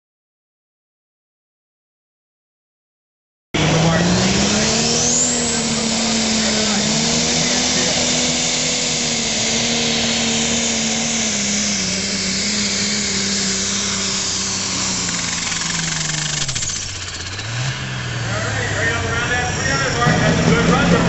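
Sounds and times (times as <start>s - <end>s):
tractor engine under load: 3.6s - 21.0s.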